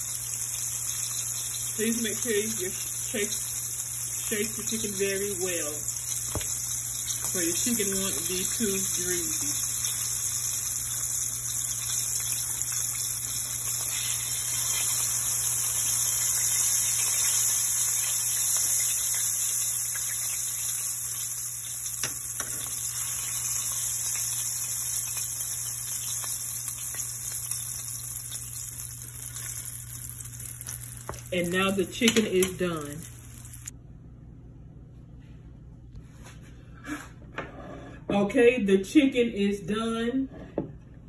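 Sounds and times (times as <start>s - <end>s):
chicken sizzling in hot oil: 0.0s - 33.7s.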